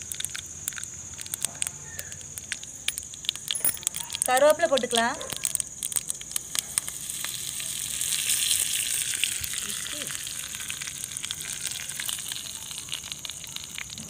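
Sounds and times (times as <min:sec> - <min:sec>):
leaves sizzling in hot oil: 0:00.0 - 0:14.0
seeds popping in oil: 0:00.0 - 0:14.0.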